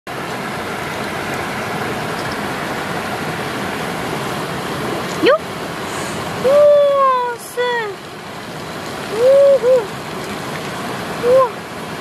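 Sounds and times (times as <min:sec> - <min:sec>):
running water rushing: 0:00.1 - 0:12.0.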